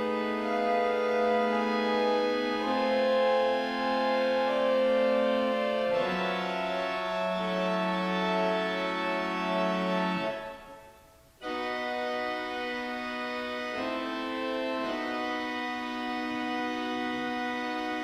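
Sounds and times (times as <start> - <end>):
organ playing held chords: 0.0 - 18.0.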